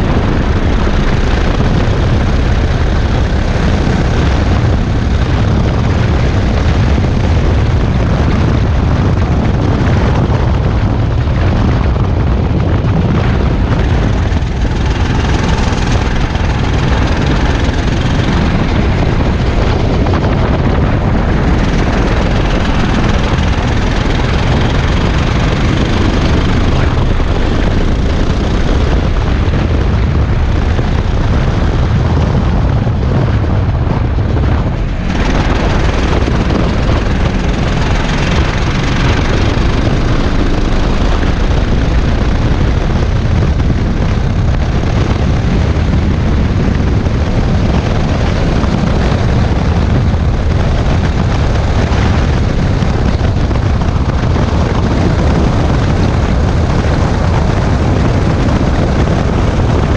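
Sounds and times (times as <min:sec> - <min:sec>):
kart engine running: 0:00.0 - 0:59.9
wind noise on microphone: 0:00.0 - 0:59.9.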